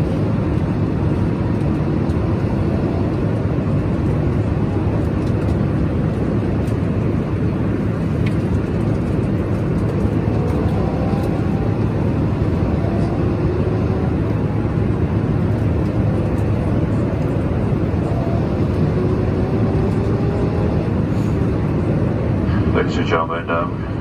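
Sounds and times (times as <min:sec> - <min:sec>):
airliner cabin engine rush: 0:00.0 - 0:24.0.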